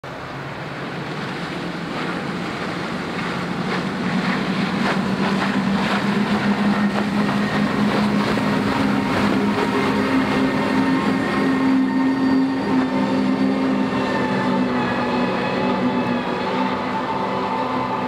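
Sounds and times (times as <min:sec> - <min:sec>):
outboard motors humming: 0:00.1 - 0:18.0.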